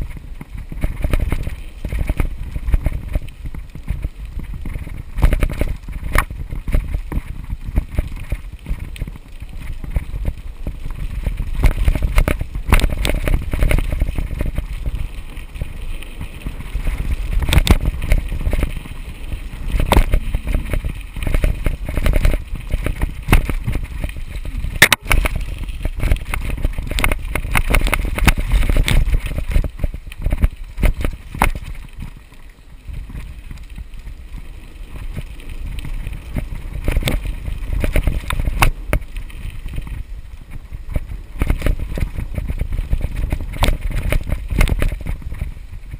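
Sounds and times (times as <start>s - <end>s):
bike knocking and rattling: 0.0s - 45.9s
bike tyres rumbling on dirt: 0.0s - 45.9s
wind on microphone: 0.0s - 45.9s.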